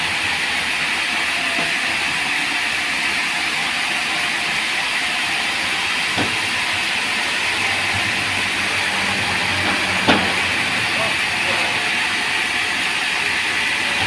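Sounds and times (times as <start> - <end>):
band sawmill hissing: 0.0 - 14.0.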